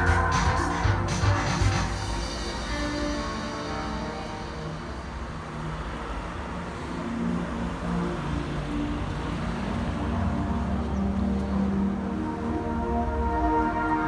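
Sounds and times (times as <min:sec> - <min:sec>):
slow background music: 0:00.0 - 0:14.0.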